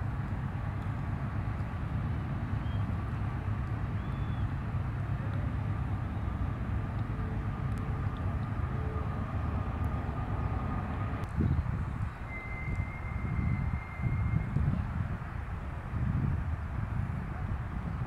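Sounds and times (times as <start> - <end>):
distant jet engines rumbling: 0.0 - 18.0
faint engine whine: 0.0 - 18.0.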